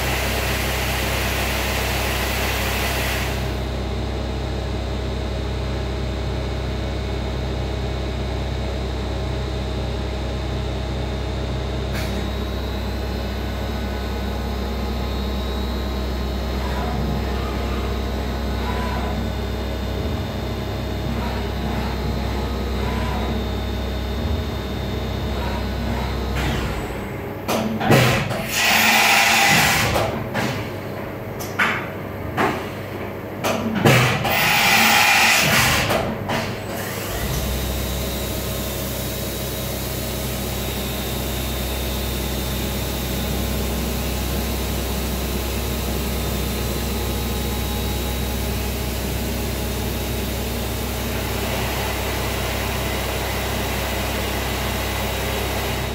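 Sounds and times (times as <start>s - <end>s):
milling machine humming: 10.1s - 55.9s.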